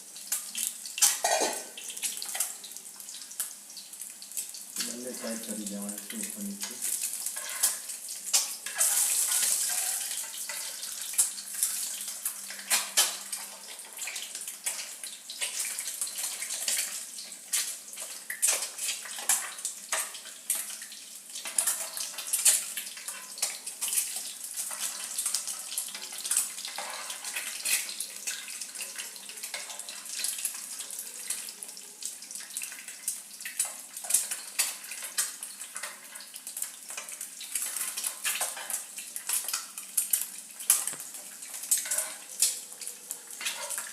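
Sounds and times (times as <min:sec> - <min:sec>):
eggs sizzling in hot oil: 0:00.0 - 0:43.9.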